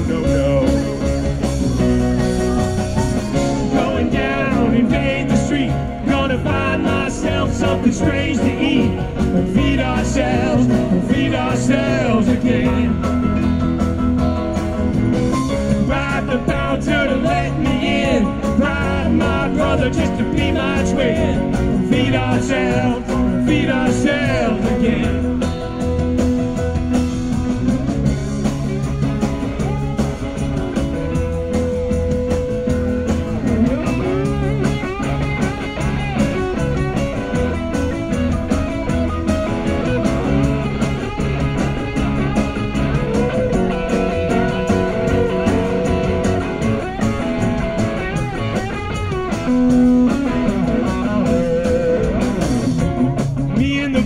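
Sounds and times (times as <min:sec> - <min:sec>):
bass guitar: 0:00.0 - 0:54.0
drums: 0:00.0 - 0:54.0
electric guitar lead: 0:00.0 - 0:54.0.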